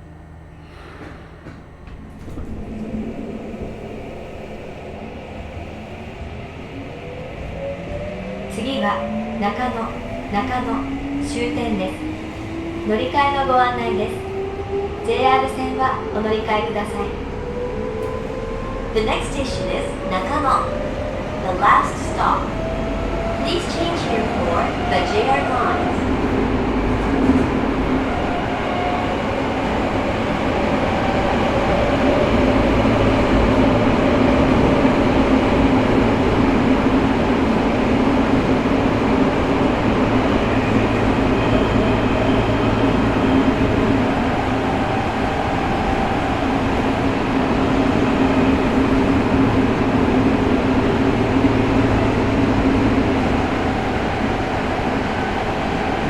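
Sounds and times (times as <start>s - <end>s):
train wheels rumbling on rails: 0.6s - 56.0s.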